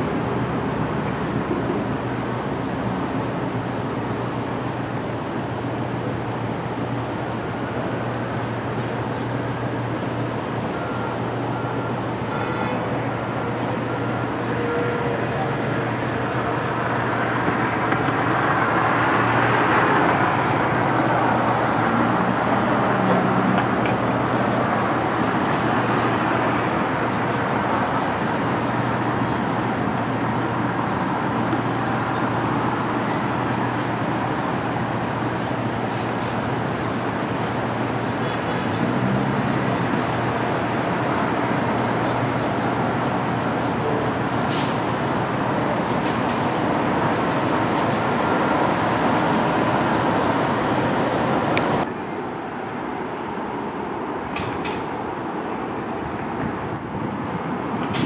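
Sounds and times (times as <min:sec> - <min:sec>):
vehicle rumble: 0:00.0 - 0:58.0.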